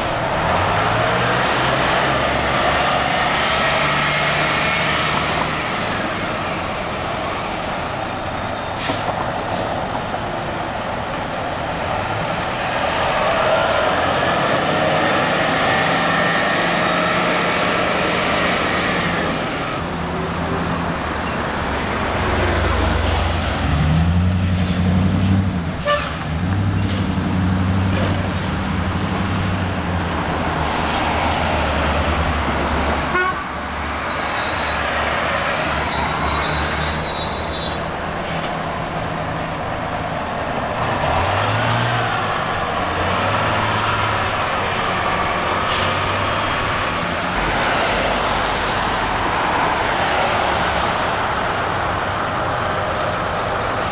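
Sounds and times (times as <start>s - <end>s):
diesel buses pulling away: 0.0s - 53.9s
traffic noise: 0.0s - 53.9s.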